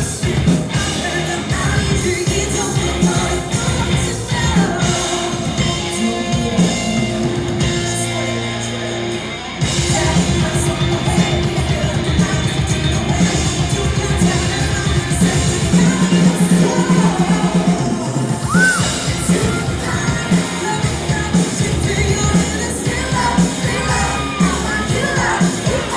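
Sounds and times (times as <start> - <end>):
driving drums: 0.0 - 25.9
live rock band playing: 0.0 - 25.9.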